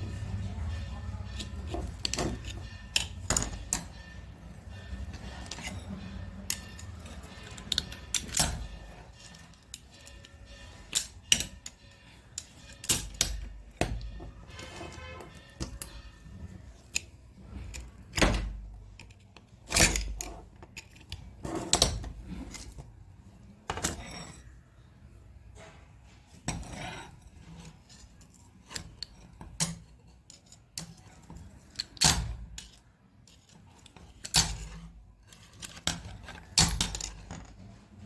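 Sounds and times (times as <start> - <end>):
metal tools clicking and knocking: 0.0 - 24.6, 25.5 - 37.8.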